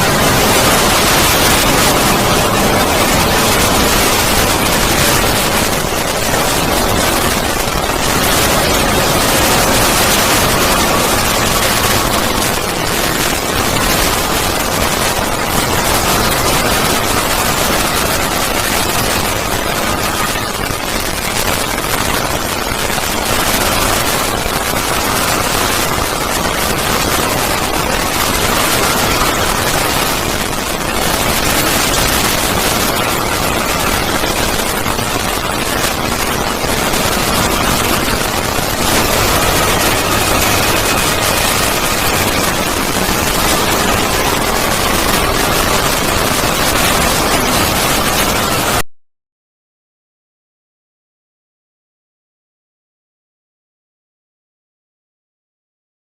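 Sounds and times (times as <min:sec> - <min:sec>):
harsh distorted hiss: 0:00.0 - 0:48.8.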